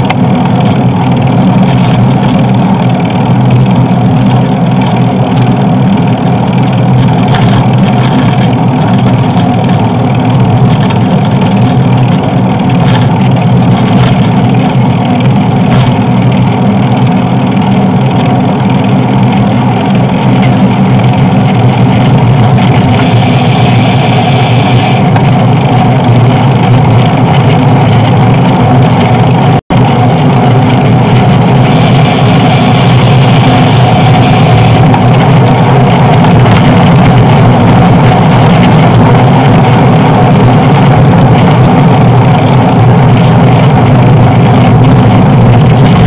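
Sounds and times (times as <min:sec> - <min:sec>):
bicycle riding noise: 0:00.0 - 0:46.0
traffic noise: 0:00.0 - 0:46.0.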